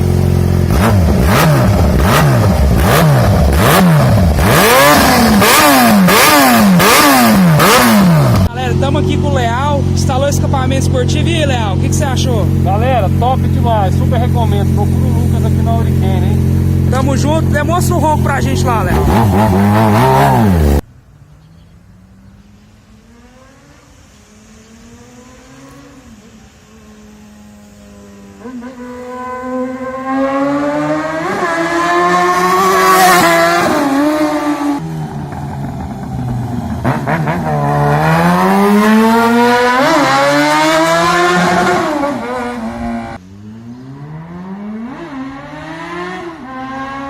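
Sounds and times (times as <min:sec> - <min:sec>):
motorcycle engine revving: 0:00.0 - 0:47.0
faint engine note rising: 0:06.6 - 0:47.0.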